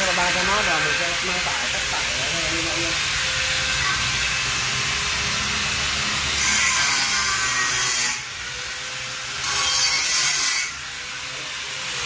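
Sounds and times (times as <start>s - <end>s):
angle grinder motor whine: 0.0s - 12.0s
grinder disc cutting material: 0.0s - 12.0s.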